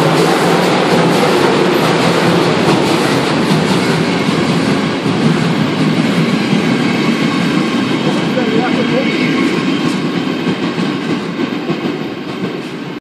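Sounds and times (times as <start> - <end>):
steam train passing: 0.0 - 13.0.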